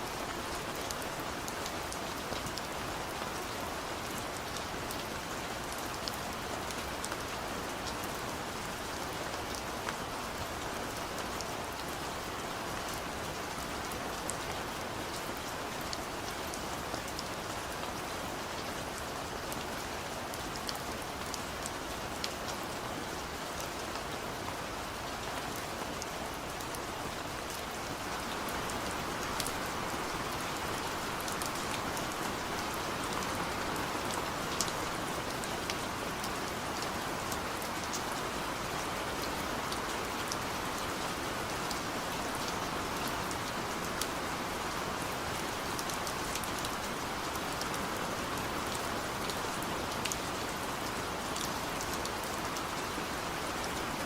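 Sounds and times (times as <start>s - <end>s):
rain falling: 0.0s - 54.0s
raindrops ticking on a surface: 0.1s - 54.0s.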